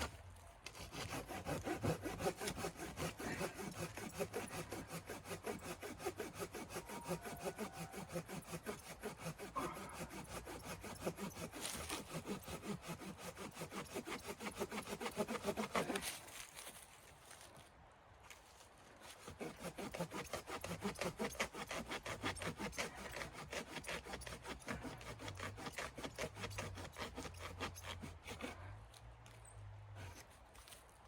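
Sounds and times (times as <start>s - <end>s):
hand saw cutting wood: 0.0s - 16.9s, 19.0s - 28.8s.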